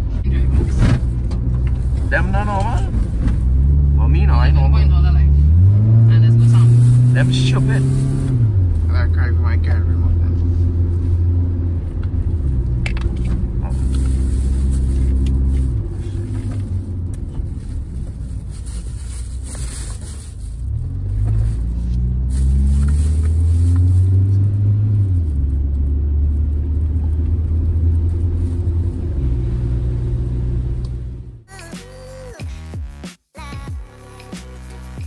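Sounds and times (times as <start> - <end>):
road noise inside car: 0.0 - 31.6
car engine revving: 0.0 - 32.2.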